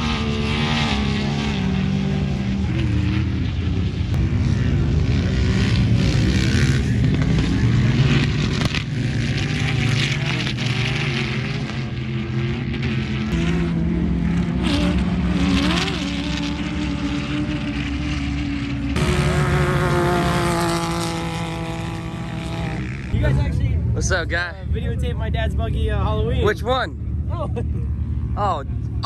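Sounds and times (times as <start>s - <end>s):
engines revving: 0.0s - 29.0s.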